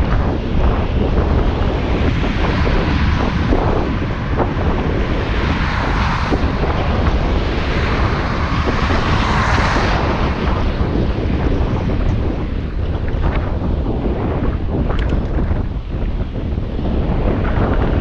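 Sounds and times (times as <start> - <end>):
road noise: 0.0 - 18.0
wind rushing over microphone: 0.0 - 18.0.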